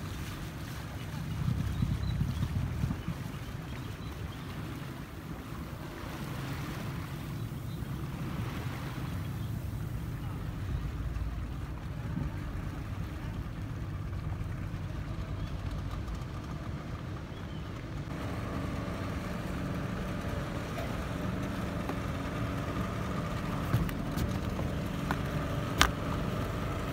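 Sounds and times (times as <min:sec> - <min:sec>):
boat engine humming: 0:00.0 - 0:26.9.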